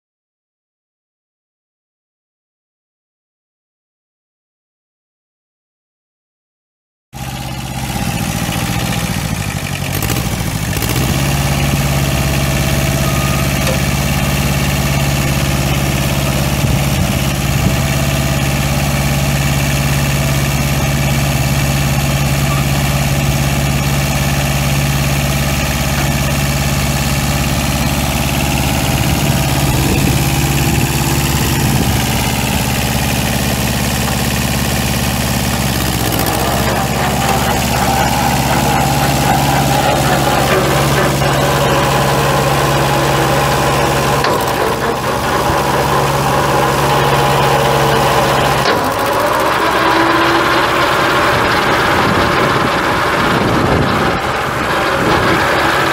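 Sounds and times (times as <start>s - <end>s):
tractor diesel engine idling: 7.2s - 55.9s.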